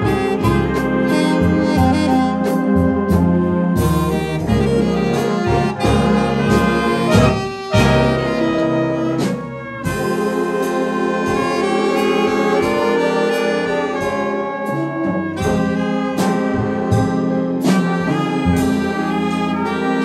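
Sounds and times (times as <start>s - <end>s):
jazz big band playing: 0.0s - 20.0s.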